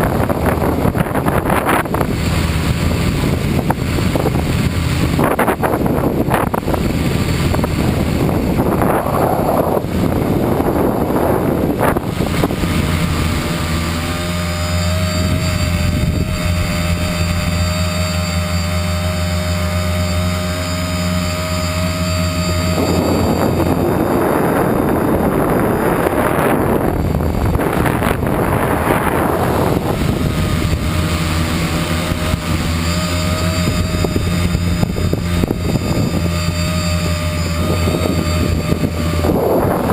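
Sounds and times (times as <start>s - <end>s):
drone propellers buzzing: 0.0s - 39.9s
wind on microphone: 0.0s - 39.9s.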